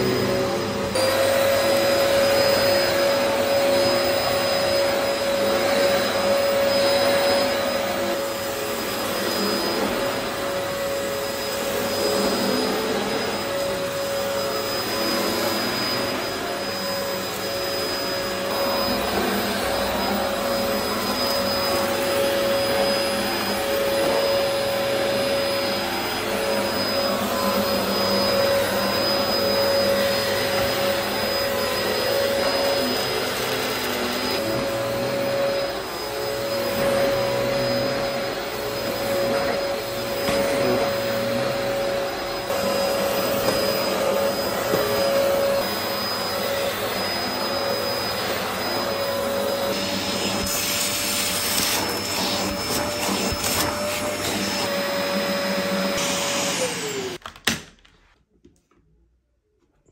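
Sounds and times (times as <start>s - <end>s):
vacuum cleaner running on carpet: 0.0s - 57.2s.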